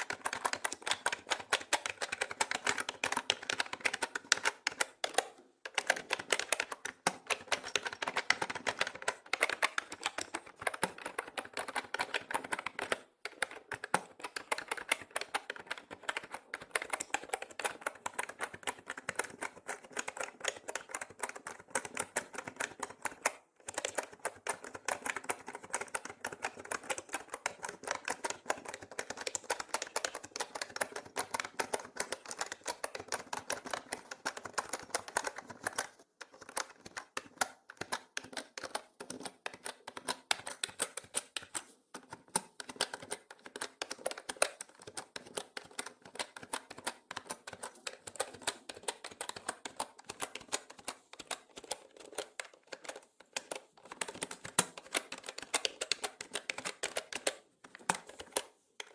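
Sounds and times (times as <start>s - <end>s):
mechanical keyboard typing: 0.0s - 58.9s.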